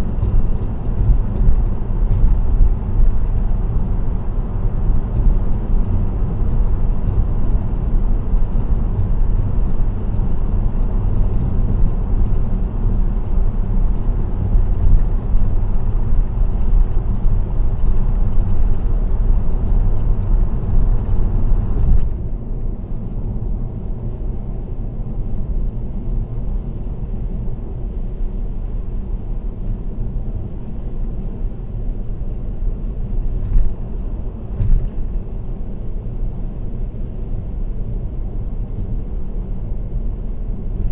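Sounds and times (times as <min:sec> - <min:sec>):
car road and tyre noise: 0:00.0 - 0:40.9.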